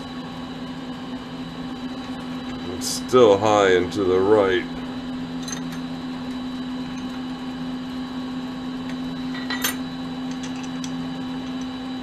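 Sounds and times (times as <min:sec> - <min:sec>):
lathe humming: 0:00.1 - 0:12.0.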